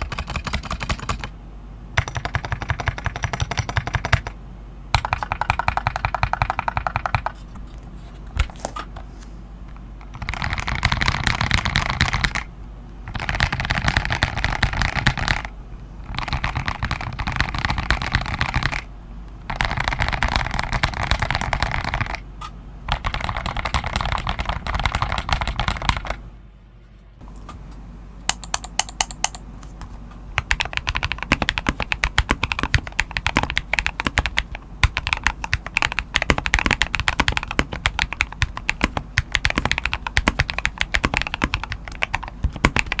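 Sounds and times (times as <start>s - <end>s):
mechanical keyboard typing: 0.0s - 1.3s, 2.0s - 7.4s, 9.7s - 22.2s, 22.9s - 26.2s, 28.3s - 29.4s, 30.4s - 43.0s.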